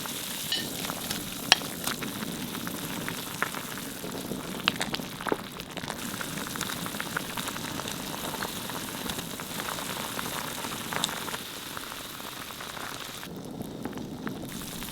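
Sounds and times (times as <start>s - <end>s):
soup crackling and hissing in pot: 0.0s - 14.9s.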